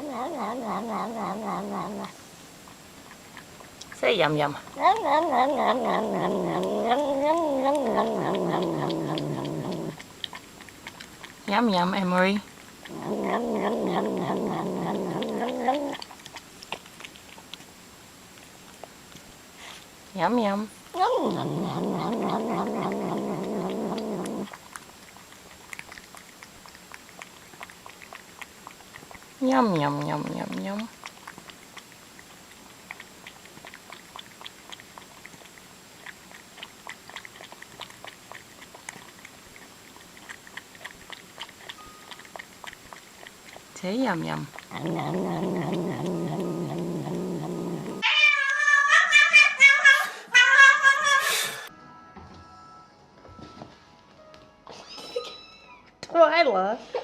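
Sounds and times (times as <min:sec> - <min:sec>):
cat vocalizing: 0:00.0 - 0:17.6, 0:21.0 - 0:51.7.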